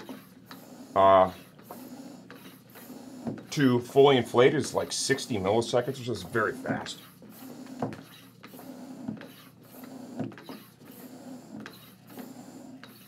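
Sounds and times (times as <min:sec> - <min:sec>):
electric tire pump humming: 0:00.0 - 0:13.0.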